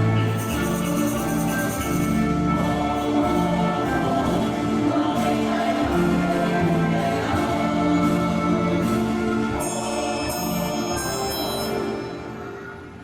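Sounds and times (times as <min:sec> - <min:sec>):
choir singing: 0:00.0 - 0:13.0
orchestral accompaniment: 0:00.0 - 0:13.0.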